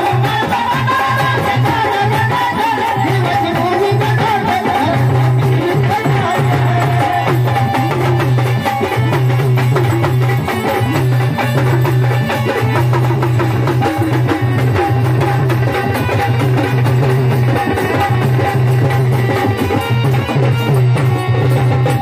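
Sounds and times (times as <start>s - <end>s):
rapid steady drumming: 0.0s - 22.0s.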